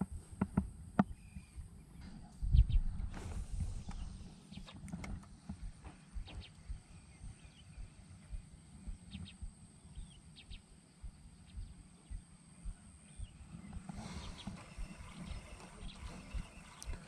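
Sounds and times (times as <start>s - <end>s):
soft low thuds: 0.0s - 17.0s
bird chirps: 1.0s - 4.9s, 5.5s - 17.0s.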